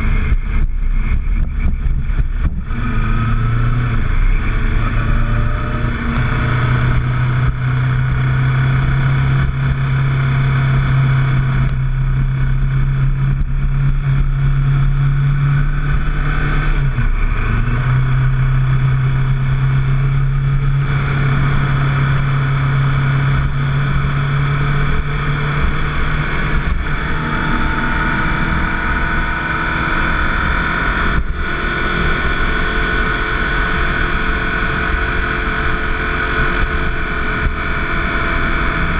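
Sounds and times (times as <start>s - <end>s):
motorcycle engine running: 0.0s - 38.9s
rising engine tones: 0.0s - 38.9s.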